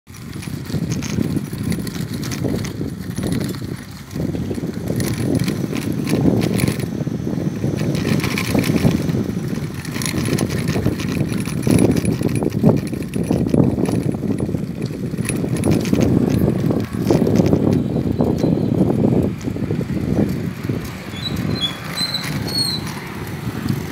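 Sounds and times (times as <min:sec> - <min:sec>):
bicycle rattles and clicks: 0:00.1 - 0:23.9
wind buffeting microphone: 0:00.1 - 0:23.9.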